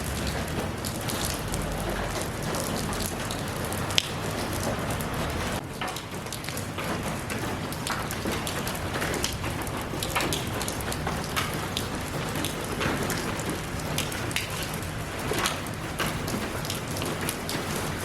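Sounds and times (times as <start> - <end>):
raindrops tapping a surface: 0.0 - 18.0
steady rain hiss: 0.0 - 18.0.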